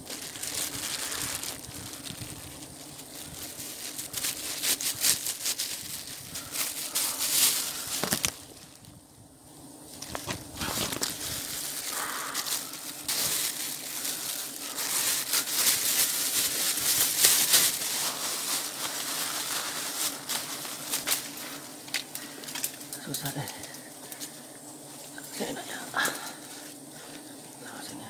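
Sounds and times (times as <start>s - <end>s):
leaves and twigs rustling: 0.0s - 28.0s.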